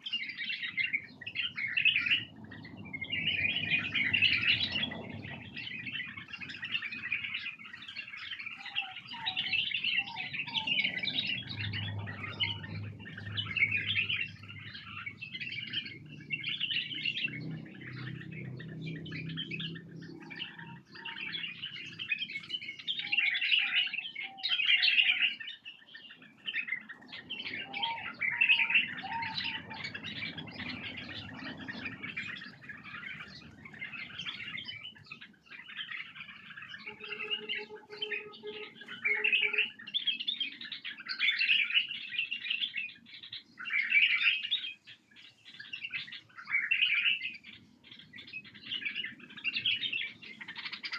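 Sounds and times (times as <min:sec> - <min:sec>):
birds chirping and calling: 0:00.0 - 0:50.9.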